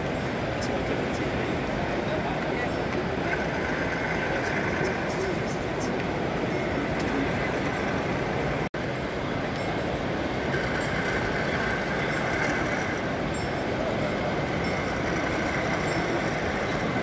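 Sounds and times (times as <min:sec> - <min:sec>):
faint thin whine: 0:00.0 - 0:17.0
model trains rolling: 0:02.1 - 0:17.0.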